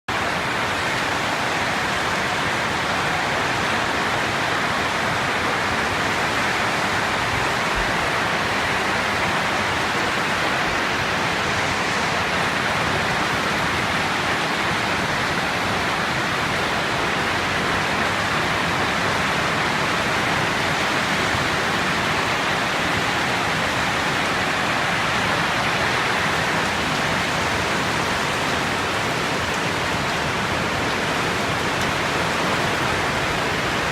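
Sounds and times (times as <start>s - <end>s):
strong wind blowing: 0.2s - 33.9s.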